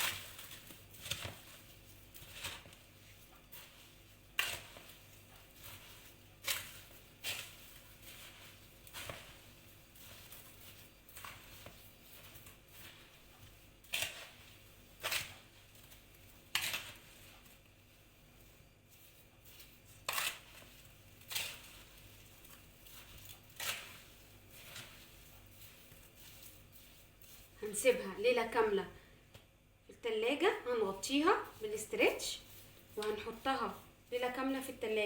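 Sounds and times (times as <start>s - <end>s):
utensil scraping and knocking bowl: 0.0s - 17.7s, 18.4s - 28.6s, 30.8s - 35.0s.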